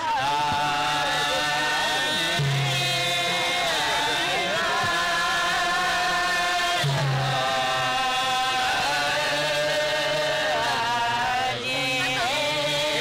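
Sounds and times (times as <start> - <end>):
person singing folk song: 0.0 - 13.0.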